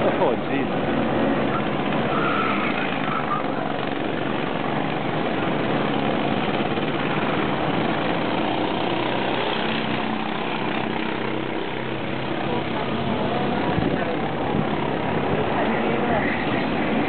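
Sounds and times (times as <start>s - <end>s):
go-kart engines running: 0.0s - 17.0s.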